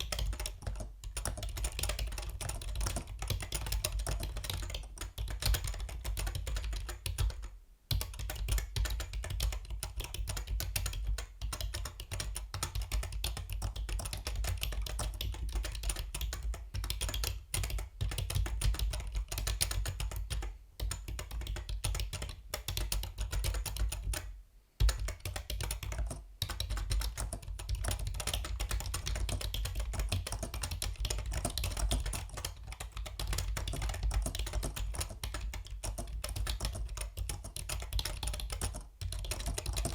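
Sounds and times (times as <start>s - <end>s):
mechanical keyboard typing: 0.0s - 24.2s, 24.8s - 39.9s.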